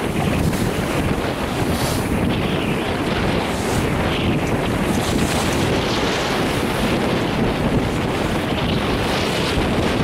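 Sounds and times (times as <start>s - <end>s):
water rushing along a hull: 0.0s - 10.0s
wind buffeting microphone: 0.0s - 10.0s.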